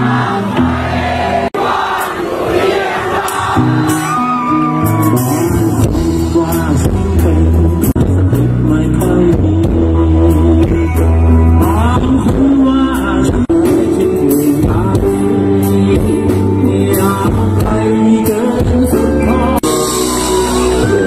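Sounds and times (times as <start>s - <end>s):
rock band playing: 0.0s - 21.0s
man singing: 4.1s - 21.0s.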